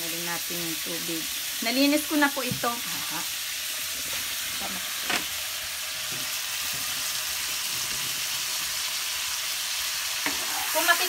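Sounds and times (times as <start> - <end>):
squid sizzling in a pan: 0.0 - 11.0.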